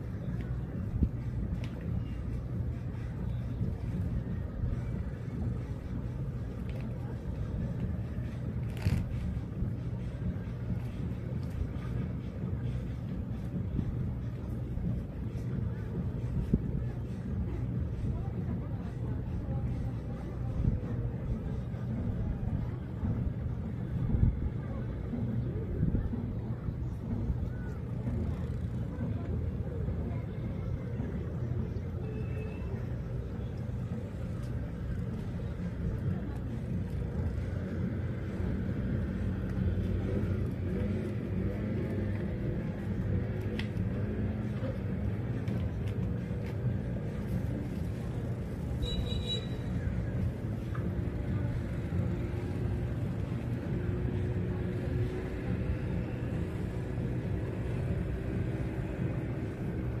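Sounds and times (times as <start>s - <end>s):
engine rumbling: 0.0s - 60.0s.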